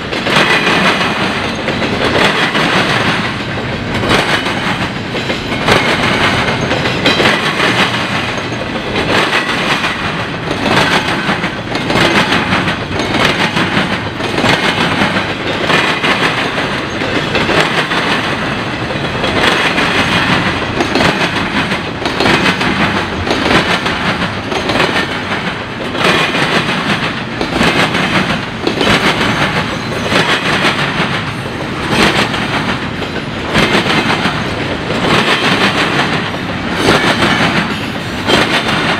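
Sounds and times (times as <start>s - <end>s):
train wheels clattering over crossing: 0.0s - 38.9s.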